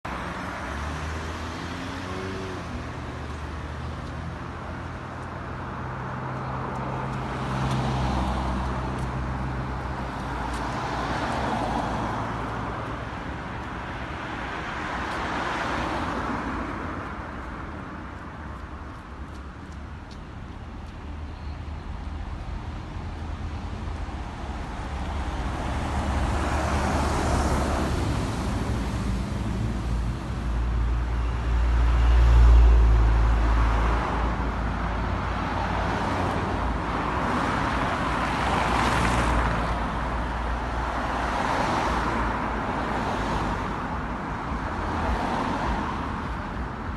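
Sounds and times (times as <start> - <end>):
vehicles passing: 0.0 - 46.9.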